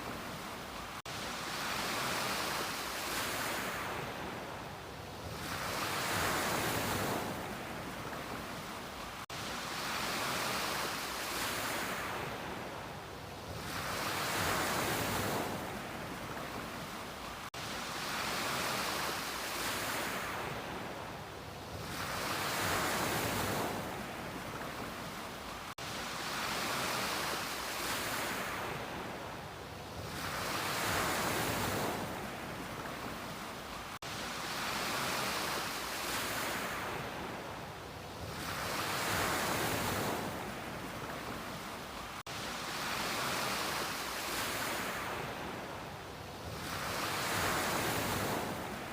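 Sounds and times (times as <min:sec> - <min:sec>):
ocean waves breaking on beach: 0:00.0 - 0:48.9.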